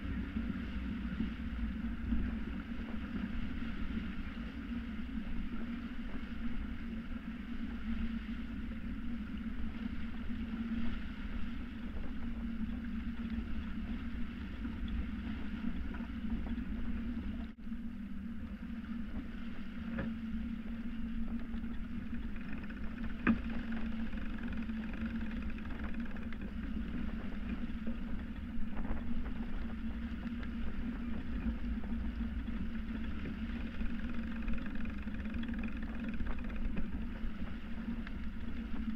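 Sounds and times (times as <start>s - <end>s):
steady low hum: 0.0s - 38.9s
water rushing along hull: 0.0s - 38.9s
wind noise: 0.0s - 38.9s.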